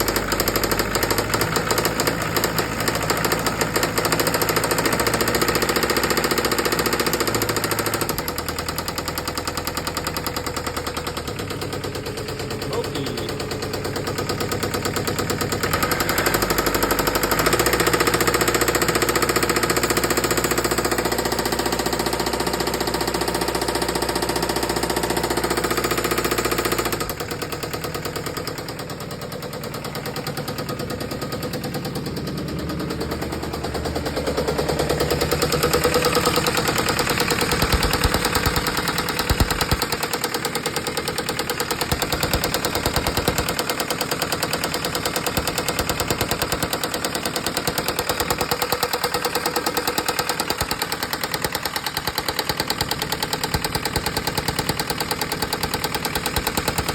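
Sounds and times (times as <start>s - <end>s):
diesel engine knocking clatter: 0.0s - 56.9s.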